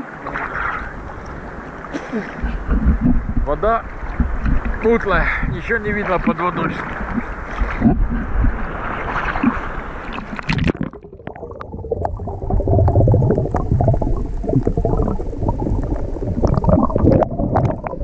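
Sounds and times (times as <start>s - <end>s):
sea water splashing: 0.0s - 18.0s
muffled underwater gurgling: 2.4s - 5.6s, 6.2s - 9.6s, 10.2s - 18.0s.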